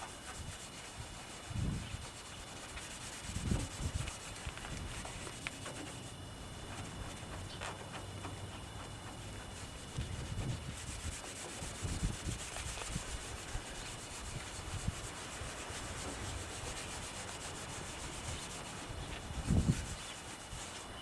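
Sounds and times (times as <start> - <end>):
pad rubbing plastic lens: 0.0 - 21.0.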